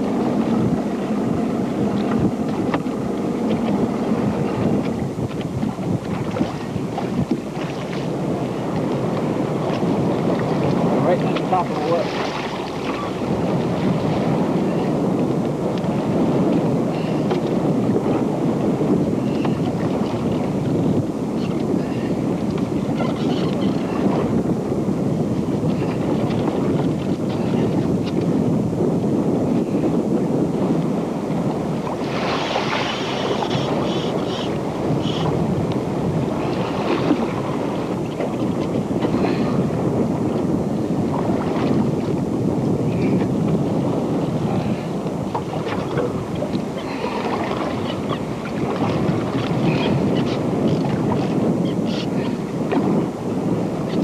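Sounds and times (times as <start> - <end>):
water splashing against hull: 0.0 - 54.0
wind buffeting microphone: 0.0 - 54.0.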